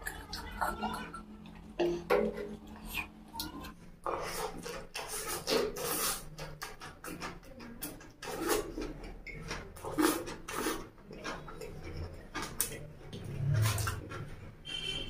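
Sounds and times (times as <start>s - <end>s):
chewing and slurping noodles: 0.0s - 15.0s.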